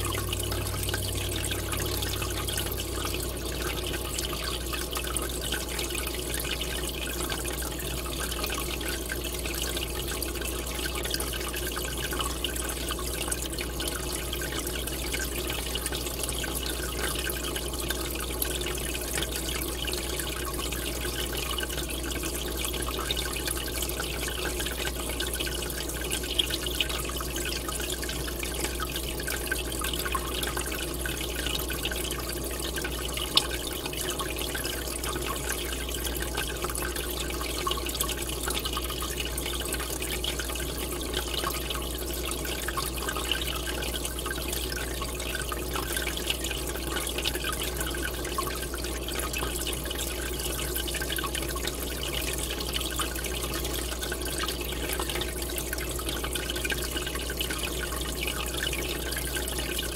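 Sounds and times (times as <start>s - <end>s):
aquarium air bubbles churning water: 0.0s - 59.9s.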